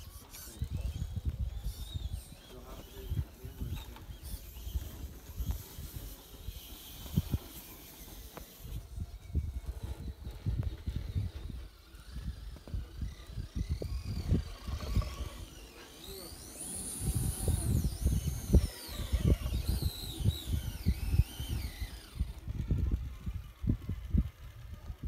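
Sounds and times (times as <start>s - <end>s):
electric motors whining: 0.0s - 25.0s
wind buffeting microphone: 0.0s - 25.0s.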